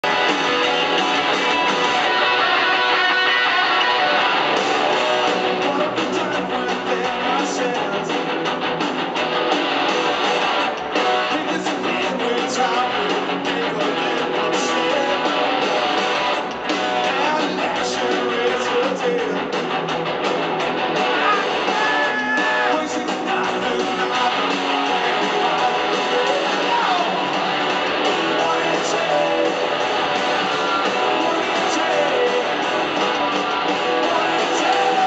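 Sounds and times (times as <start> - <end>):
bass guitar: 0.0 - 35.0
drum kit: 0.0 - 35.0
electric guitars: 0.0 - 35.0.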